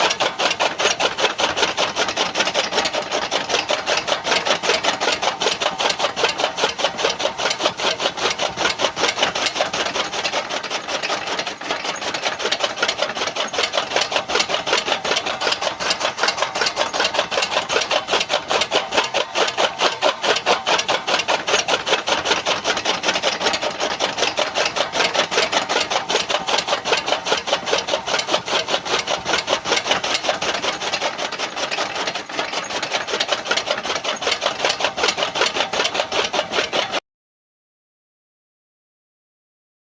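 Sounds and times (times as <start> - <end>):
chaff cutter rasping: 0.0 - 37.0.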